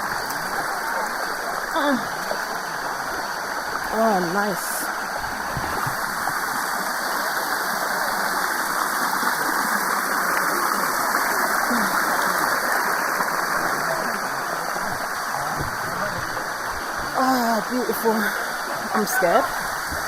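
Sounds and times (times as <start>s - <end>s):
waterfall rushing over rock: 0.0s - 20.0s.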